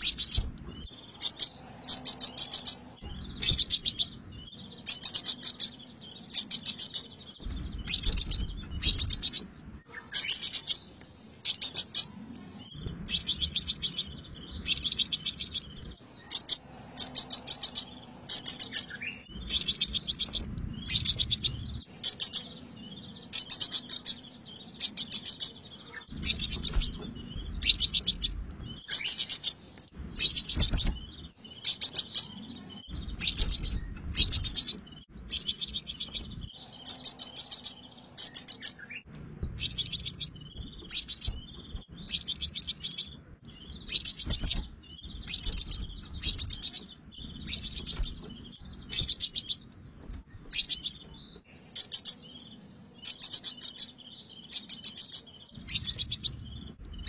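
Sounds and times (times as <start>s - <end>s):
sunbird calling: 0.0s - 57.0s.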